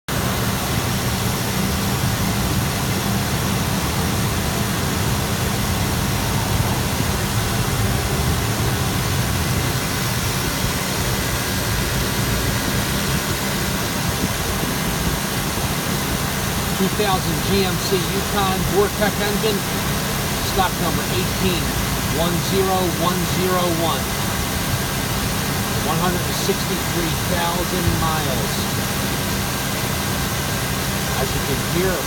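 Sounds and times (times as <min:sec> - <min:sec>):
engine running steadily: 0:00.1 - 0:32.0.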